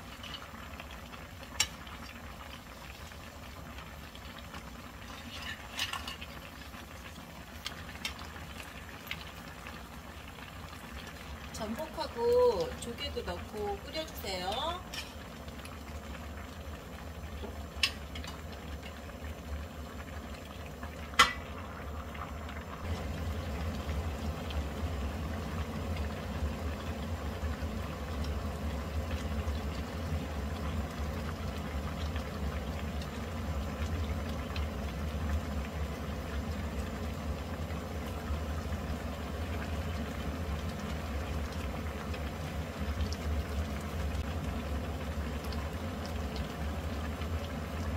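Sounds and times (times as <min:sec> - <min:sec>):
stew bubbling at a boil: 0:00.0 - 0:47.9.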